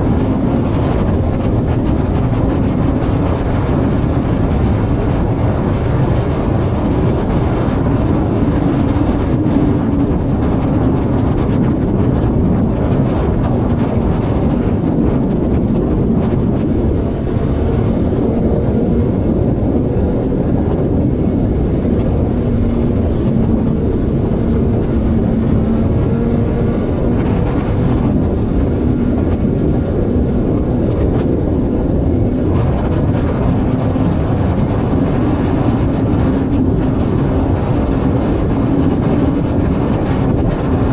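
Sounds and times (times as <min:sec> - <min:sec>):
road and wind noise: 0:00.0 - 0:40.9
vehicle engine cruising: 0:00.0 - 0:40.9.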